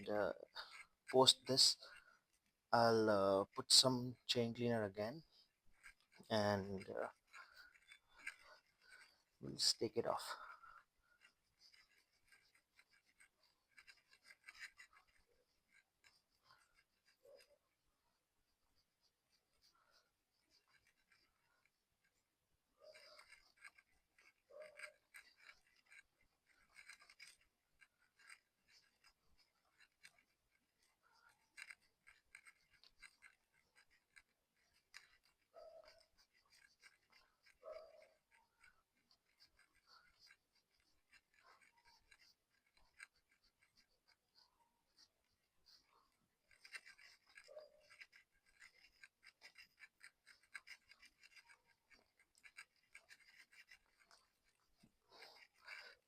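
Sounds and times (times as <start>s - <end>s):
cloth rubbing chain: 0.0s - 56.0s.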